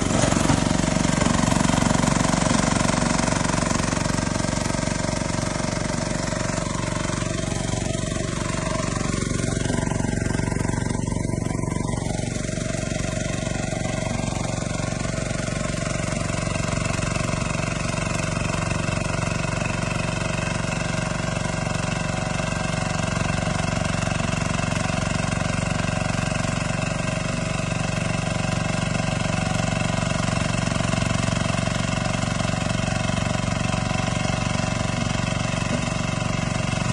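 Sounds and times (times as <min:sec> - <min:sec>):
small tiller engine running: 0:00.0 - 0:36.9.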